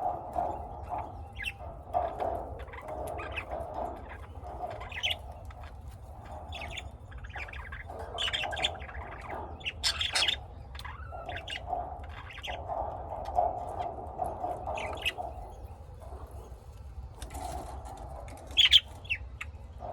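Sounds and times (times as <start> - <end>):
lovebirds chirping and squawking: 0.0 - 19.9.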